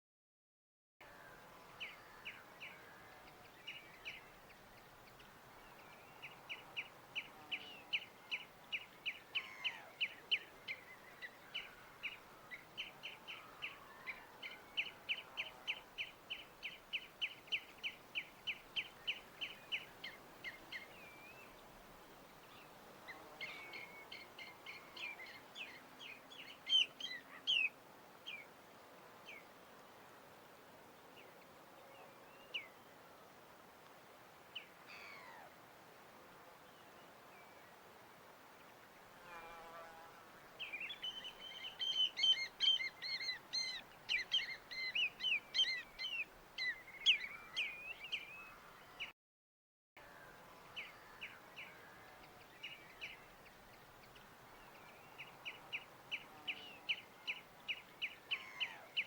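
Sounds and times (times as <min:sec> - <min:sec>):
faint steady hiss: 0:01.0 - 0:49.1, 0:50.0 - 0:59.0.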